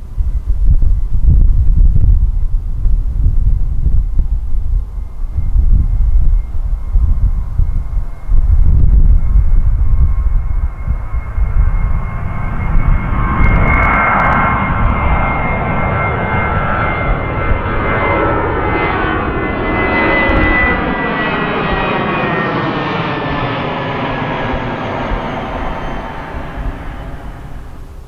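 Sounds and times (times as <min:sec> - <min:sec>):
jet engine roar with fan whine: 0:00.0 - 0:28.0.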